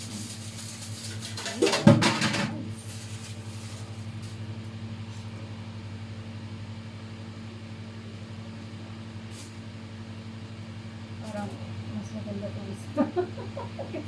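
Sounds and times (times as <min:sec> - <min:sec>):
kitchen appliance humming: 0:00.0 - 0:14.0.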